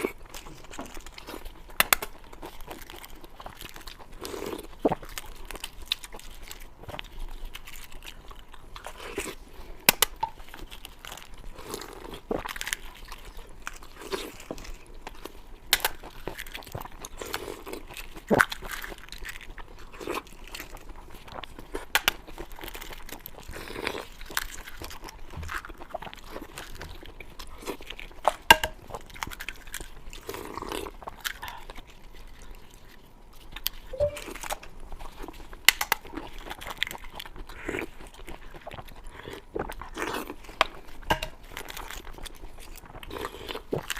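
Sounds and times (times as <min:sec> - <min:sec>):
chewing and crunching: 0:00.0 - 0:43.9.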